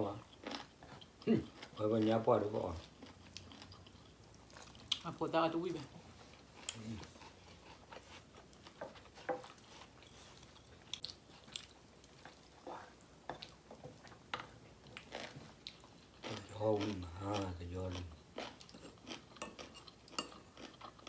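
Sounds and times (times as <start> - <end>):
people chewing food: 0.0 - 21.0.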